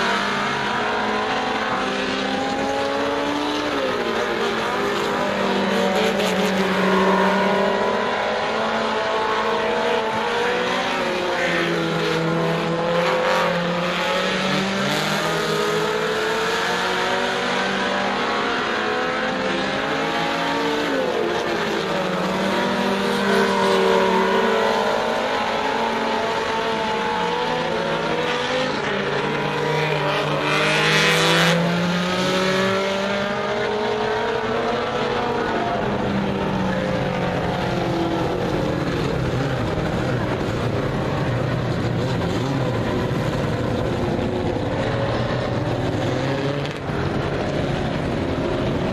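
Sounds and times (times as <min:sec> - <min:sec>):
race car engines: 0:00.0 - 0:48.9.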